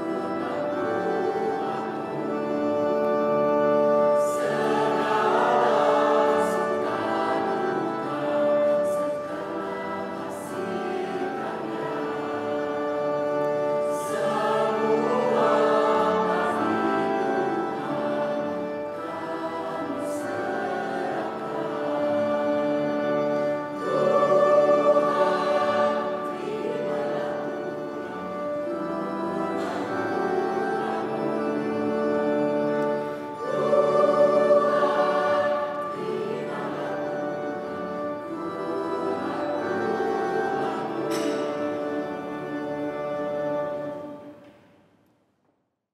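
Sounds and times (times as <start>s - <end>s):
choir singing a hymn: 0.0s - 44.4s.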